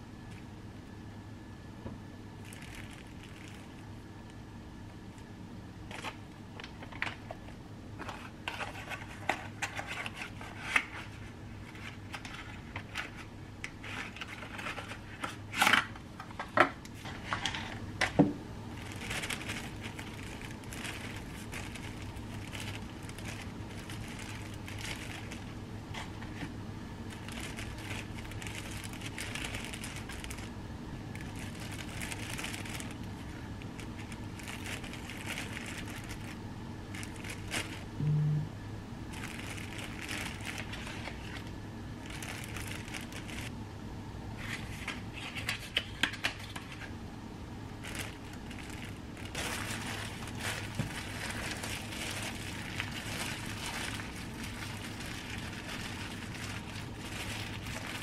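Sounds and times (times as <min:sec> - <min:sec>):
plastic bag crinkling: 0:02.4 - 0:04.4, 0:05.8 - 0:17.8, 0:18.6 - 0:38.0, 0:39.0 - 0:43.6, 0:47.7 - 0:58.0.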